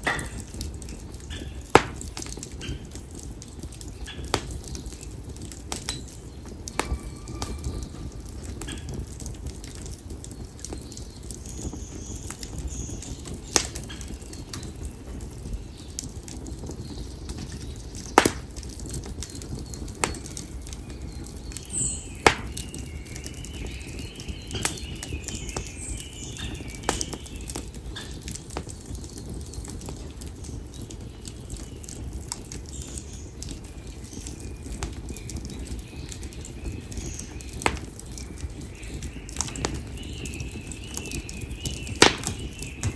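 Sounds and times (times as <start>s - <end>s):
fire crackling and popping: 0.0s - 42.9s
fire rumbling: 0.0s - 42.9s.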